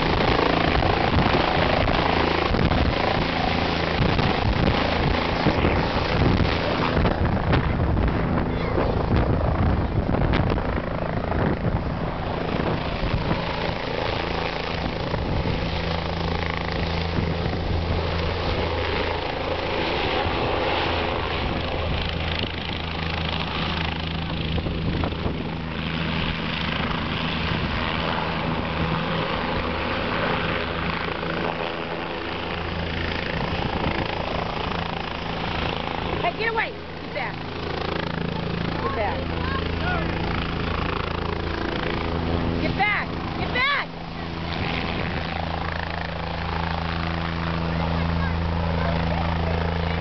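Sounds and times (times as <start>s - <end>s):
helicopter flying overhead: 0.0s - 50.0s.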